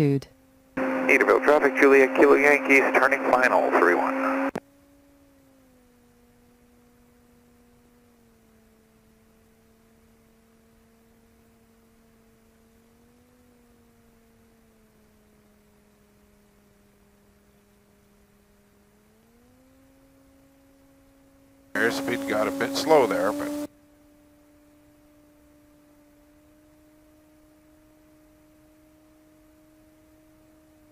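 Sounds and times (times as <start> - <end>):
faint engine hum: 0.0 - 30.9.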